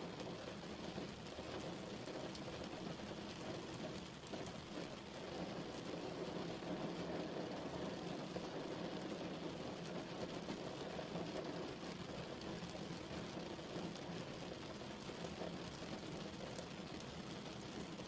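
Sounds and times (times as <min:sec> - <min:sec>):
steady rain on a surface: 0:00.0 - 0:18.0.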